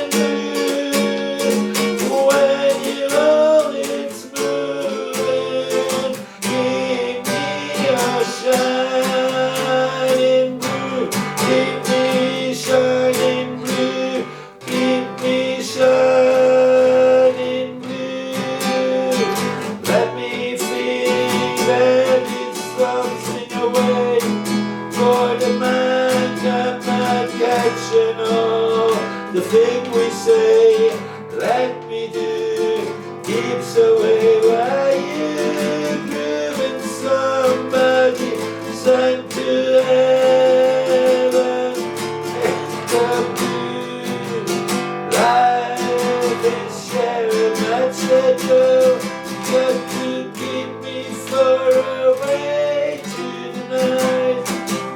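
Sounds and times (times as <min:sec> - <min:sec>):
acoustic guitar music: 0:00.0 - 0:54.9.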